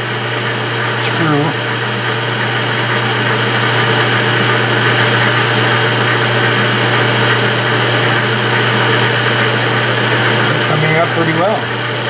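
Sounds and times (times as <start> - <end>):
drill bit boring into steel: 0.0 - 12.0
metal lathe running: 0.0 - 12.0.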